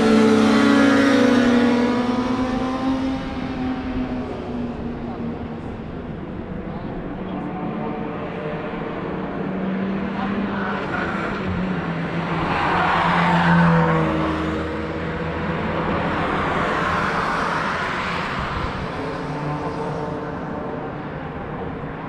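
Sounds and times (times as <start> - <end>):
racing cars passing at speed: 0.0 - 22.0.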